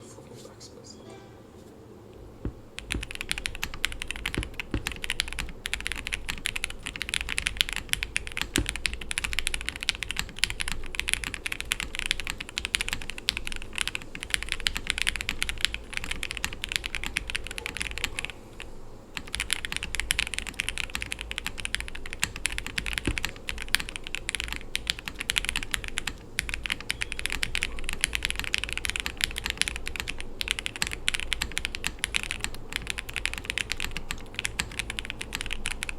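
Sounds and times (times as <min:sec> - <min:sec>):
mechanical keyboard typing: 0:02.3 - 0:35.9.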